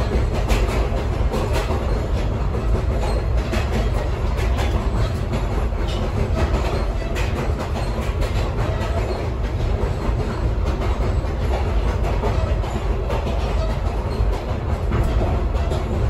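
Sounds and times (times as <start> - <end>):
train rumbling along track: 0.0 - 16.0.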